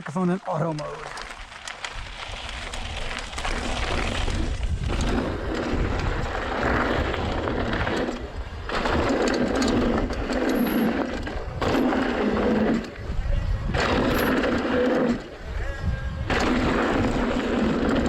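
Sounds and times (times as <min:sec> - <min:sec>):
mountain bike riding noise: 0:00.1 - 0:18.0
wind rumbling on microphone: 0:01.1 - 0:18.0.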